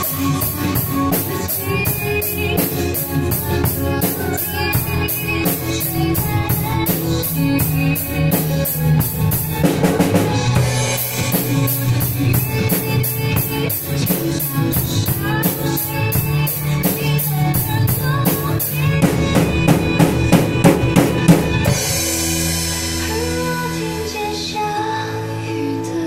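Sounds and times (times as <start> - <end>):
drum kit playing: 0.0 - 24.8
backing music: 0.0 - 26.0.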